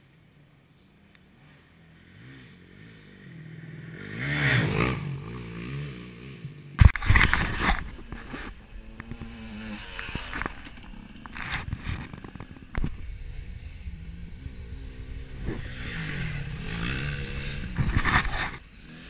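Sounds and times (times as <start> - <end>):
dirt bike engine: 0.0 - 19.0.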